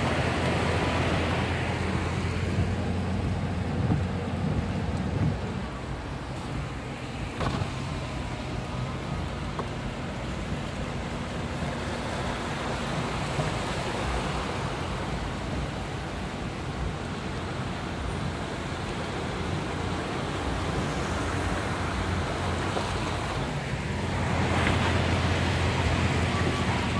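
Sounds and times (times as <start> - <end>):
car engine hum: 0.0 - 26.9
tyres swishing through water: 0.0 - 26.9.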